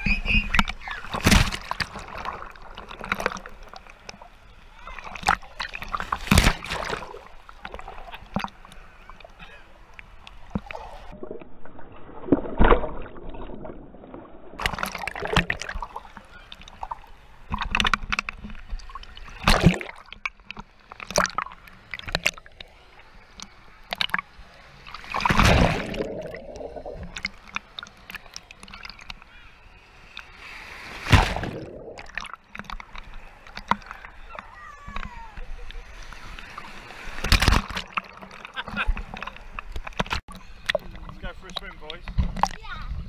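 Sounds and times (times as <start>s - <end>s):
water sloshing and splashing: 0.0s - 43.0s.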